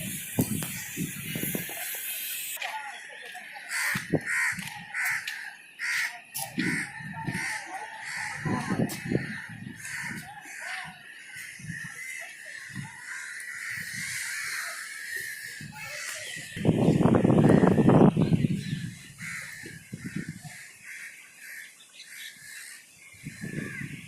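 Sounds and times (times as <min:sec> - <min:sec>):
harsh bird calls: 0:00.0 - 0:24.0.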